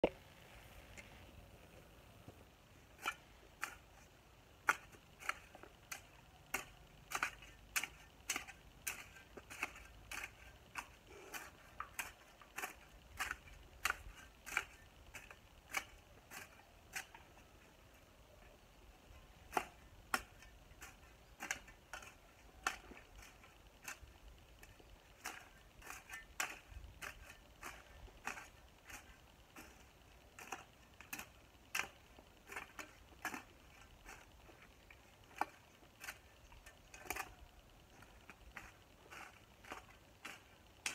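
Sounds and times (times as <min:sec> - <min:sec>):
hoe chopping into soil: 0:04.6 - 0:17.2, 0:19.4 - 0:24.0, 0:24.6 - 0:36.3, 0:36.9 - 0:40.9.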